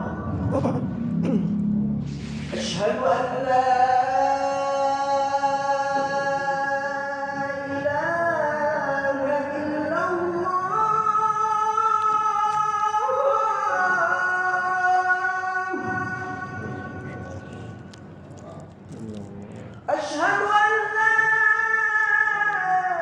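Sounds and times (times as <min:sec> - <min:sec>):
man chanting: 0:02.4 - 0:23.0.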